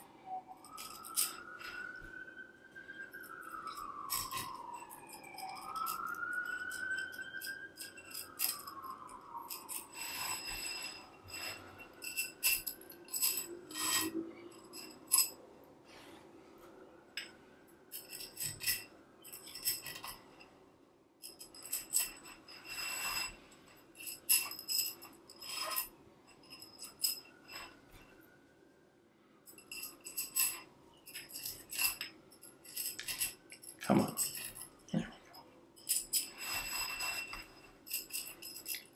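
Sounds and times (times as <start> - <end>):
faint wavering squeal: 0.0 - 20.5, 21.3 - 38.9
metal hooks clicking and clinking: 0.6 - 2.1, 3.0 - 15.4, 17.9 - 20.5, 21.2 - 28.2, 29.4 - 38.9.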